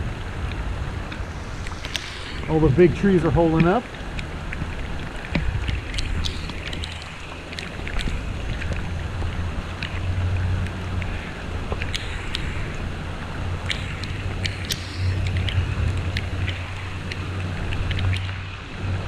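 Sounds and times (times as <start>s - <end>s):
heavy rain hiss: 0.0s - 19.0s
raindrops ticking on camera: 0.0s - 19.0s
storm wind buffeting microphone: 0.0s - 19.0s.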